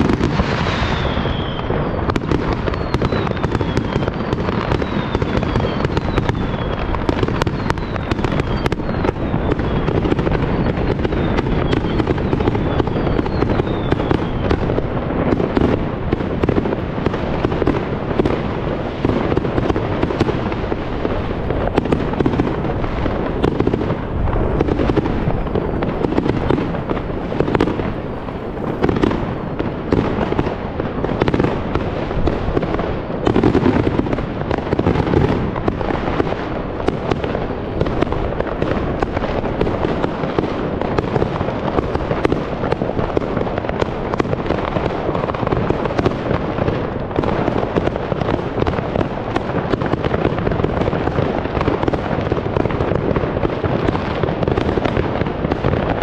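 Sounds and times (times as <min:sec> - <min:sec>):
fireworks bangs and crackling: 0:00.0 - 0:56.0
whistling fireworks falling in pitch: 0:00.0 - 0:56.0.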